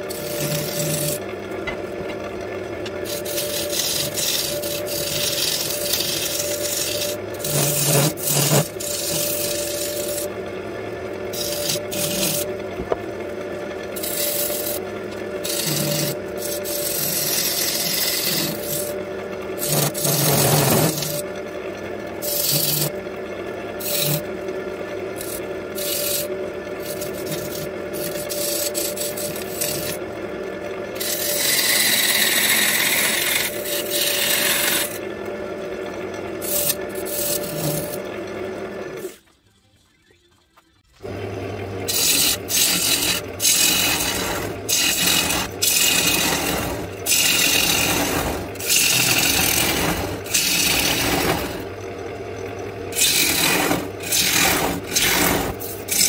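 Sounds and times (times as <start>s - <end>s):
wood lathe motor humming: 0.0s - 39.3s, 41.0s - 56.0s.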